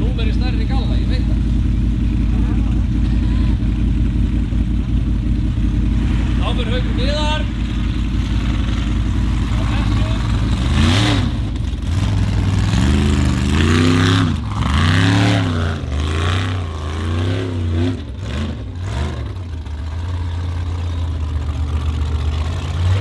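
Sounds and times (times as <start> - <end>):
buggy engine revving: 0.0 - 23.0
tyres churning dirt: 0.0 - 23.0.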